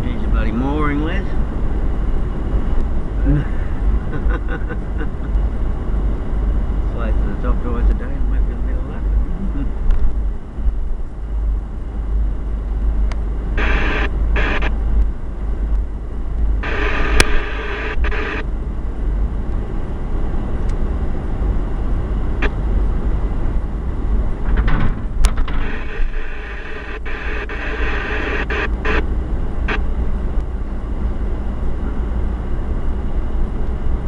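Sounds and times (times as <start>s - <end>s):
engine and road rumble: 0.0s - 34.0s.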